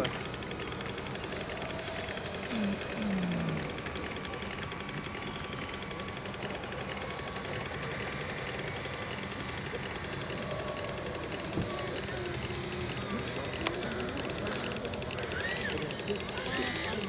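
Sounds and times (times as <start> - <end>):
outdoor background noise: 0.0 - 17.0
small motor running: 0.0 - 17.0.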